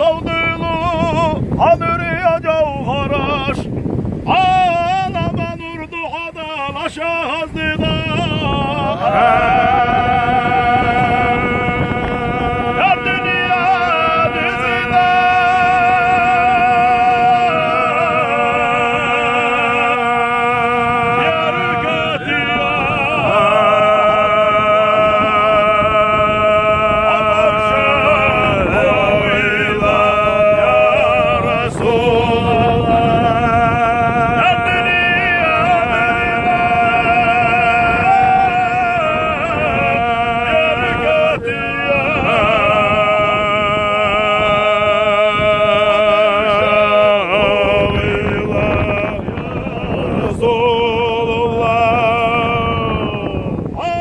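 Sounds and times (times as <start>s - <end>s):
boat engine hum: 0.0s - 54.0s
man singing unaccompanied: 0.0s - 54.0s.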